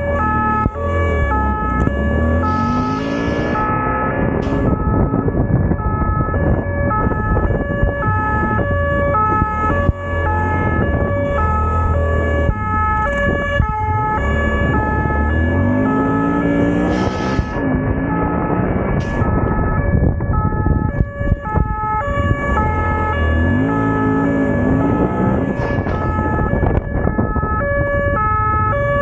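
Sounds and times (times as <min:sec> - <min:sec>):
two-tone siren: 0:00.0 - 0:29.0.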